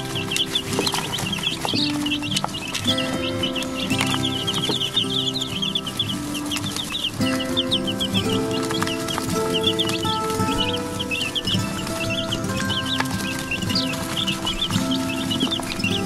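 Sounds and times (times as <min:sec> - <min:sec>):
background music with held notes: 0:00.0 - 0:16.0
chicks peeping: 0:00.0 - 0:16.0.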